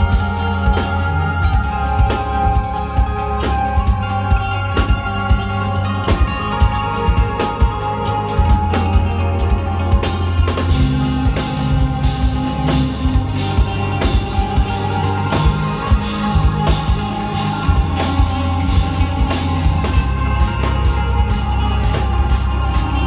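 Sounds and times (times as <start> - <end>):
drum kit: 0.0 - 23.0
electric guitars riffing: 0.0 - 23.0.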